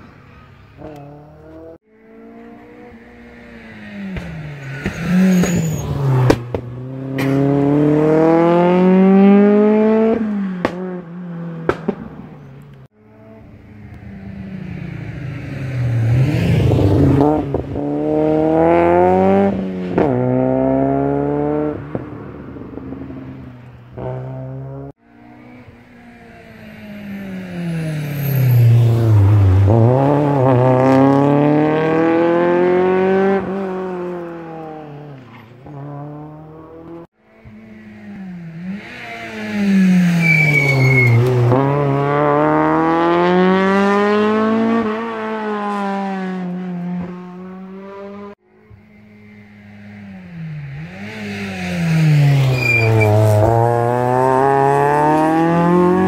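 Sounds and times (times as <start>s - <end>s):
rally car engine revving past: 0.8s - 12.0s, 13.1s - 56.0s.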